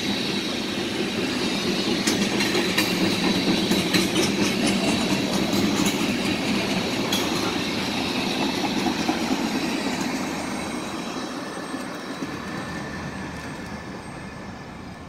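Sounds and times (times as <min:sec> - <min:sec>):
freight train rolling: 0:00.0 - 0:15.0
high wheel squeal: 0:00.0 - 0:15.0.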